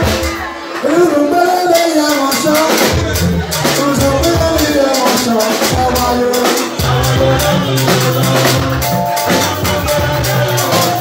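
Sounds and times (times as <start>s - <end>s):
drums keeping a steady beat: 0.0s - 11.0s
live dance band playing: 0.0s - 11.0s.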